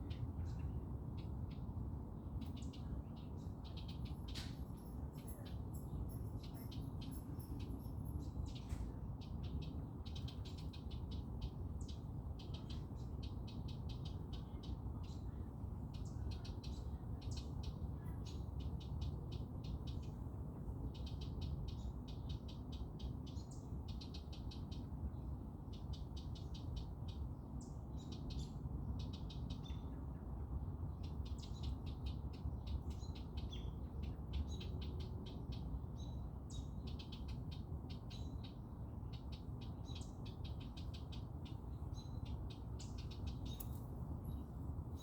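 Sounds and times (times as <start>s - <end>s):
songbirds chirping trills: 0.0s - 45.0s.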